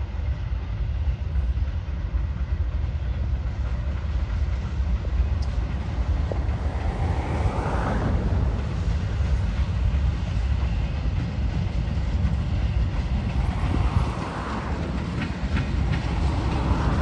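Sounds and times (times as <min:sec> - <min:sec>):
diesel locomotives passing: 0:00.0 - 0:17.0.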